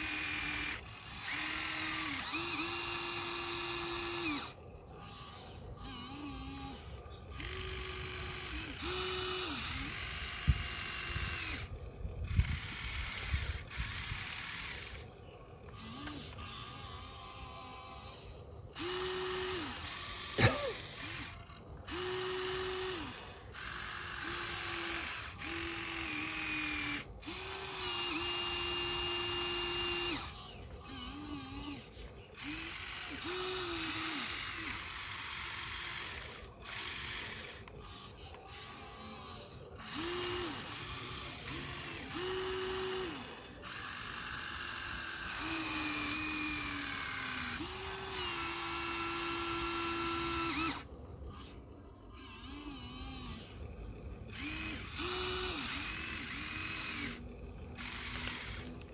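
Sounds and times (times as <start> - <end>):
small electric motors whining: 0.0 - 58.9.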